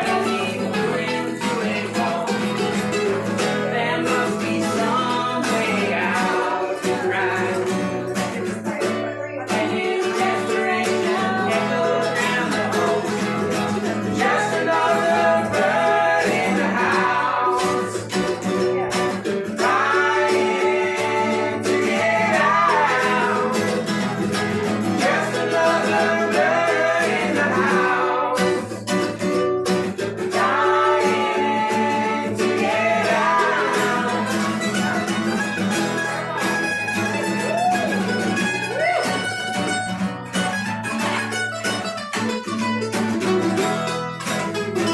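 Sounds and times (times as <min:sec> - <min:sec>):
strummed guitar: 0:00.0 - 0:44.9.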